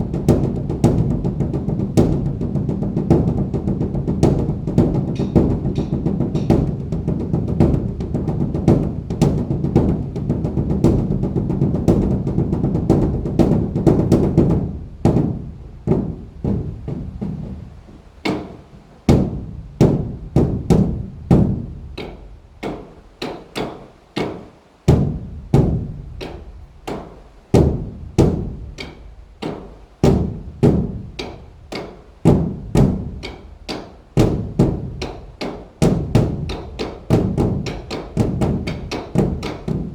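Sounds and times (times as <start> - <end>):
large drum rolling and strikes: 0.0 - 23.0, 24.8 - 39.9.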